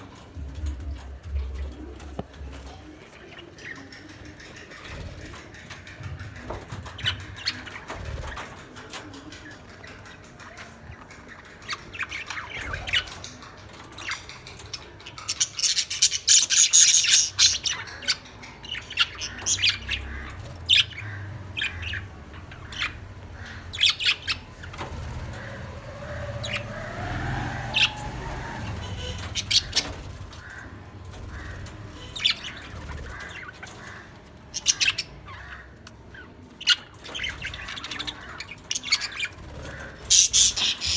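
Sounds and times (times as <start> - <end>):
lovebirds chirping and squawking: 0.0 - 40.9.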